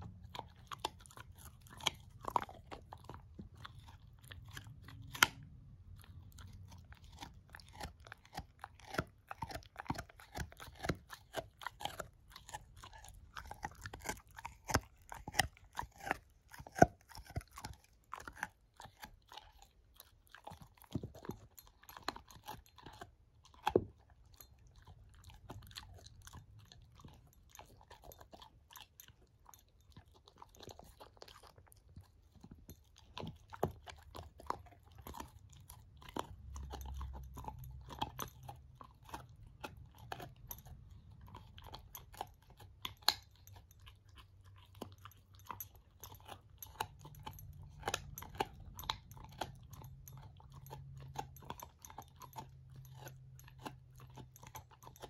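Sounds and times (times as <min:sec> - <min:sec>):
puppy chewing a bone: 0:00.0 - 0:55.0.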